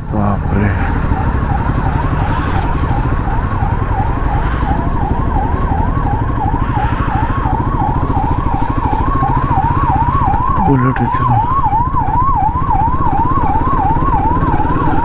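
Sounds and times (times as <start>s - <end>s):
emergency siren yelping: 0.0s - 15.0s
motorcycle engine running: 0.0s - 15.0s.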